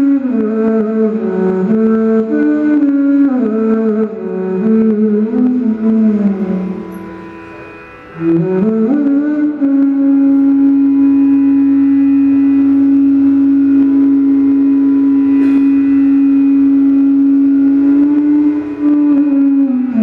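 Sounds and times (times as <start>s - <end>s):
bamboo flute playing: 0.0s - 20.0s.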